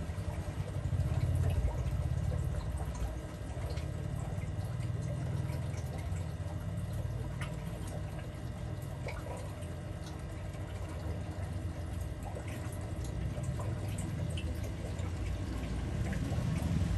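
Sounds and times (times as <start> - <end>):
aquarium water bubbling: 0.0 - 16.9
drip-like ticks: 0.0 - 16.9
steady low hum: 0.0 - 16.9.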